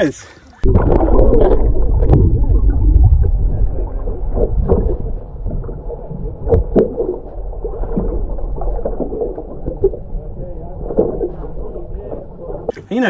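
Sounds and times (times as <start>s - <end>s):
underwater rushing and gurgling: 0.6s - 12.8s.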